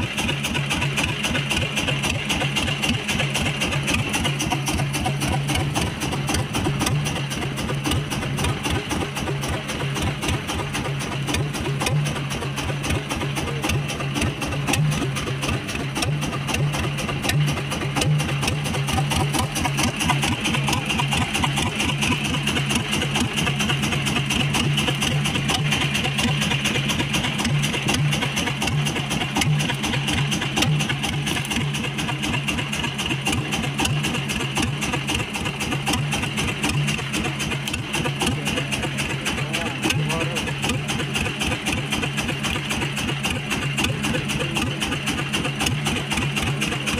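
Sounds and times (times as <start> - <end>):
small boat engine running: 0.0 - 46.9.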